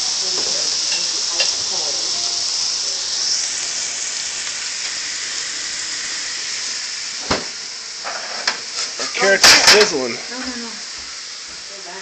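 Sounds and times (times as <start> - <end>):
mushrooms sizzling in a frying pan: 0.0 - 12.0.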